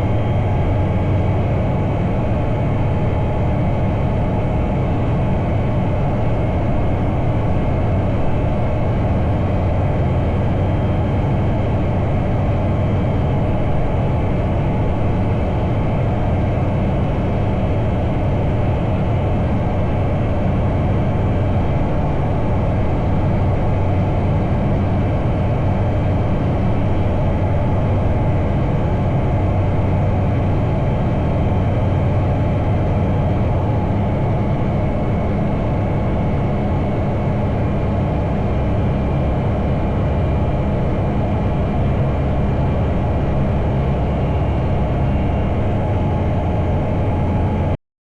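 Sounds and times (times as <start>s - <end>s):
aircraft engine and propeller droning: 0.0s - 47.8s.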